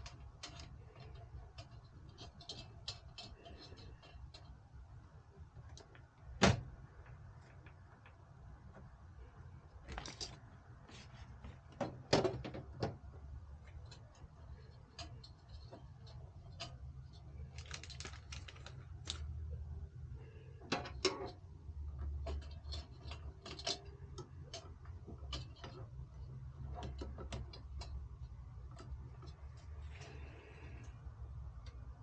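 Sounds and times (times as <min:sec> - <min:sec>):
computer hardware clicks and rattles: 0:00.0 - 0:32.0
steady low hum: 0:00.0 - 0:32.0.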